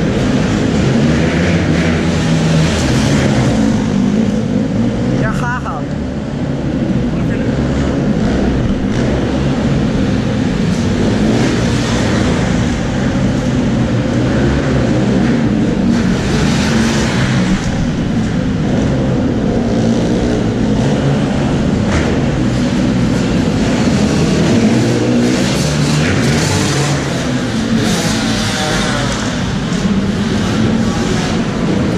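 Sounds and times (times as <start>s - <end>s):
dirt bike engine running steadily: 0.0s - 31.9s
dirt bikes revving: 0.0s - 31.9s.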